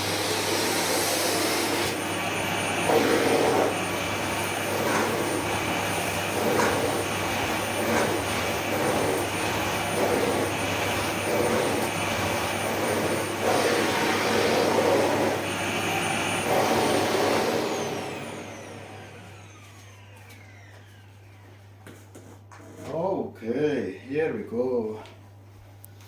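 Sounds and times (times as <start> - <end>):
vacuum cleaner running: 0.0 - 21.6.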